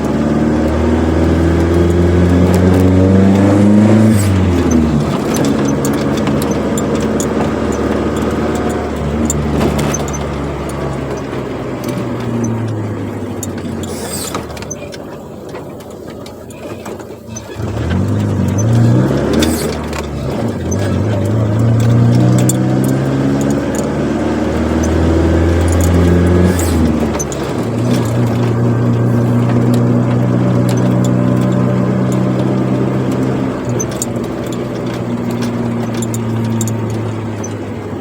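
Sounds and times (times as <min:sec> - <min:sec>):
car engine revving through exhaust: 0:00.0 - 0:38.0.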